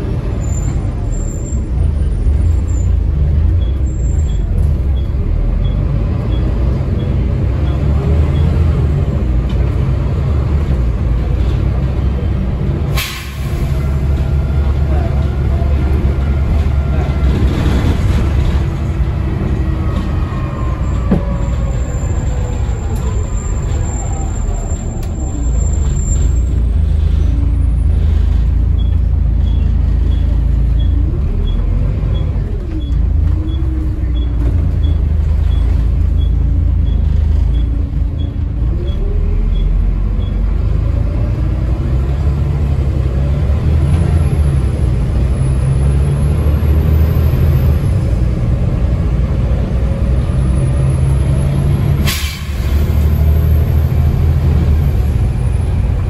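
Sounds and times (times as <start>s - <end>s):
bus diesel engine rumbling: 0.0s - 56.0s.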